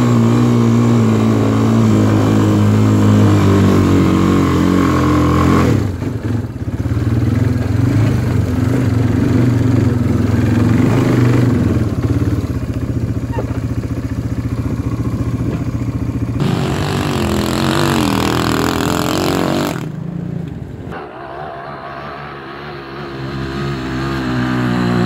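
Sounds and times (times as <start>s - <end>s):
quad bike engine revving: 0.0s - 25.0s.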